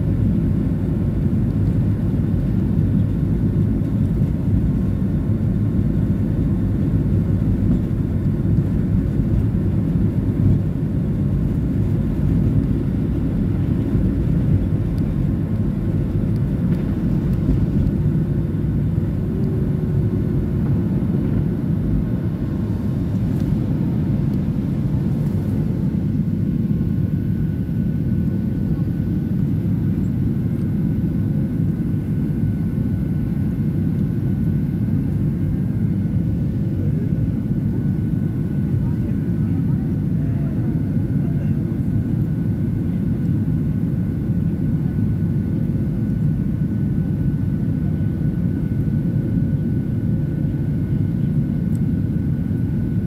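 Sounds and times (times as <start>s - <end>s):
jet engines at takeoff thrust: 0.0s - 53.0s
low runway rumble: 0.0s - 53.0s.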